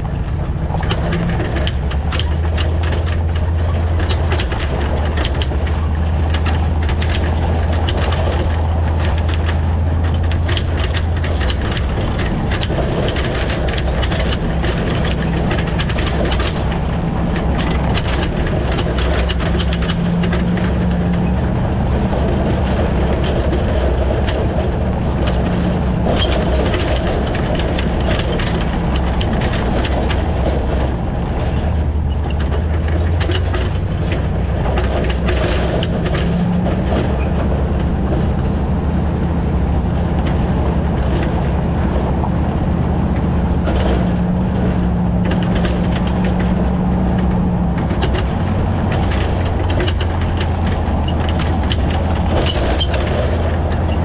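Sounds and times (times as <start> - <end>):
road and drivetrain drone: 0.0 - 54.0
trailer hitch clanks and clicks: 0.0 - 54.0.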